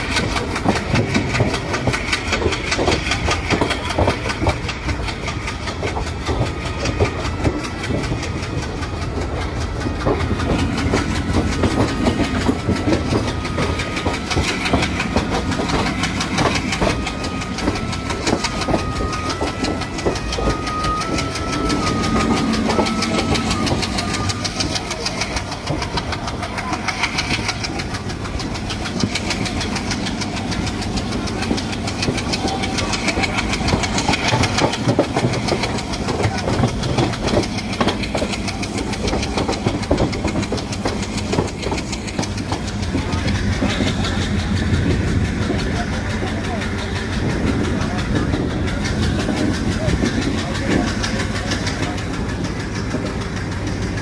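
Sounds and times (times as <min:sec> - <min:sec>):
diesel locomotive engine: 0:00.0 - 0:54.0
train wheels clattering on rails: 0:00.0 - 0:54.0.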